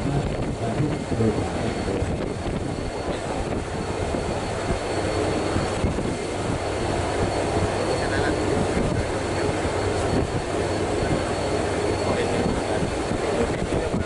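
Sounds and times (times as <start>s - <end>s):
ship engines rumbling: 0.0s - 14.0s.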